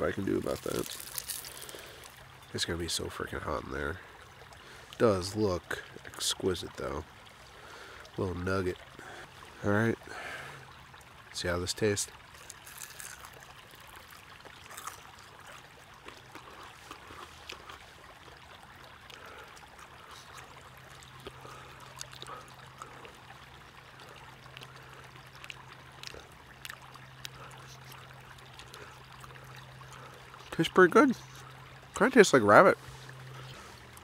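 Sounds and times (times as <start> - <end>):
creek running: 0.0 - 34.0
low steady hum: 0.0 - 34.0.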